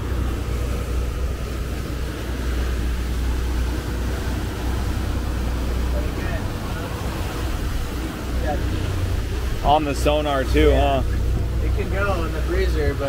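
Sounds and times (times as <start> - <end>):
boat engines droning: 0.0 - 13.0.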